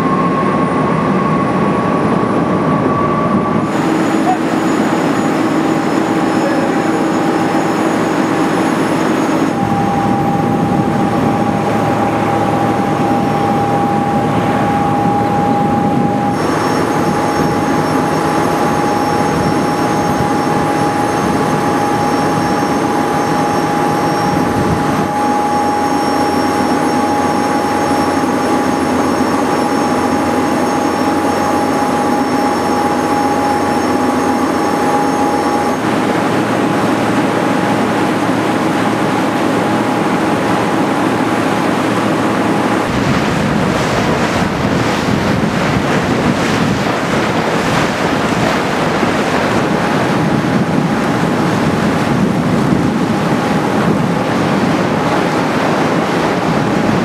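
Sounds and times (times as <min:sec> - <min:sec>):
churning wake water: 0:00.0 - 0:57.0
ferry engine drone: 0:00.0 - 0:57.0
steady whine: 0:00.0 - 0:57.0.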